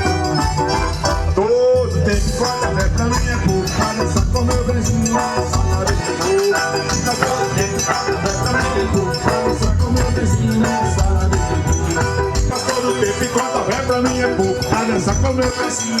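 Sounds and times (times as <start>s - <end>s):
low drum beat: 0.0s - 15.6s
accordion melody: 0.0s - 16.0s.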